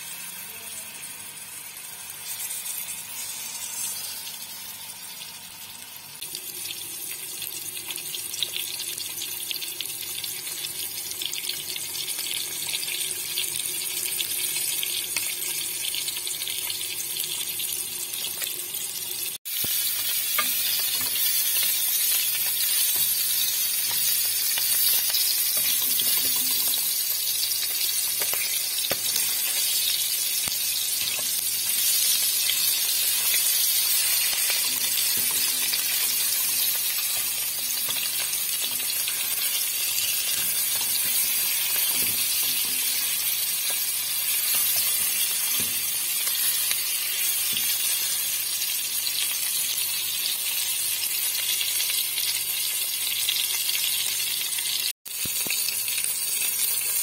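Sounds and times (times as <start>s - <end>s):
quail sizzling in hot oil: 0.0s - 57.0s.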